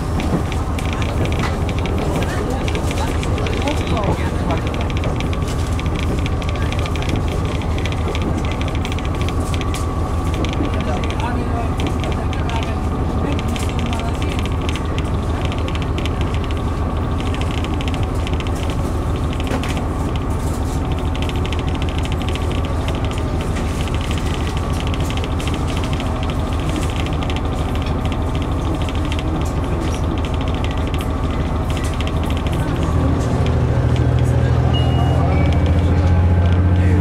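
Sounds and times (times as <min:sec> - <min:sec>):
low engine drone: 0:00.0 - 0:37.0
wheel and rail noise: 0:00.0 - 0:37.0.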